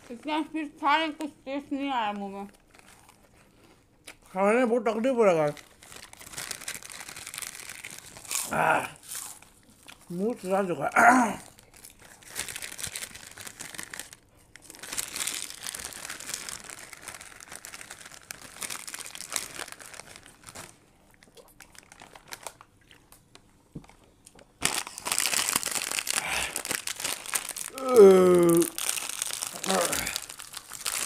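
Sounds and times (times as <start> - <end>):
plastic chip packets crinkling: 1.5 - 3.4, 4.9 - 10.8, 11.4 - 31.0.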